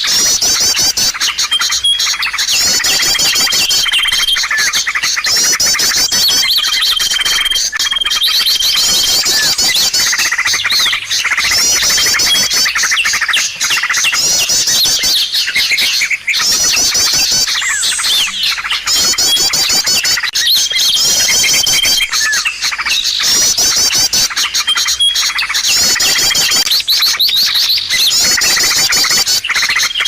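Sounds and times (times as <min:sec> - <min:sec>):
small birds chirping and twittering: 0:00.0 - 0:30.0.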